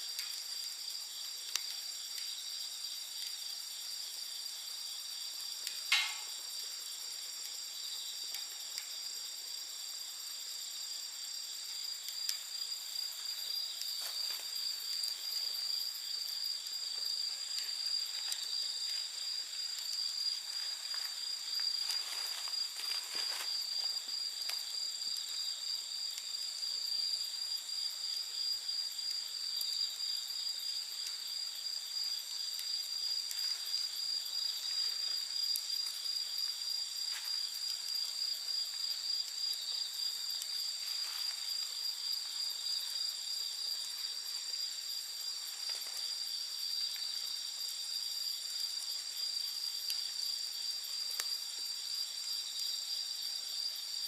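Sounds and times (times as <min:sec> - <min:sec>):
campfire crackling and popping: 0:00.0 - 0:53.3
night insects trilling: 0:00.0 - 0:54.0.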